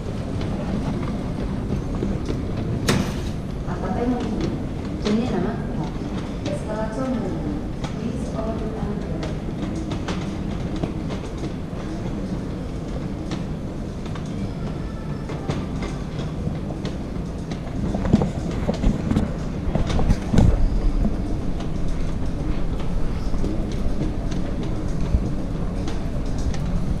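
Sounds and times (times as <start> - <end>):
moving walkway rumble: 0.0 - 27.0
walkway treadway clicks: 0.0 - 27.0.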